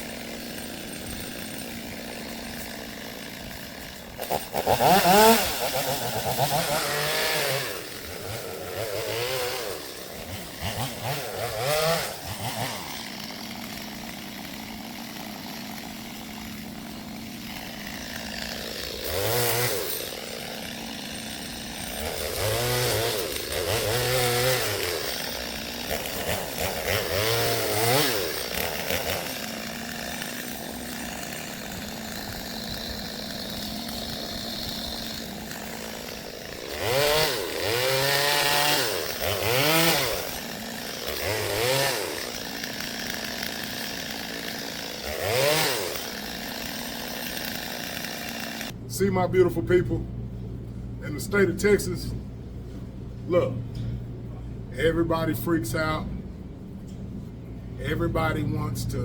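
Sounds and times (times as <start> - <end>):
chainsaw idling and revving: 0.0 - 52.2, 53.2 - 59.0.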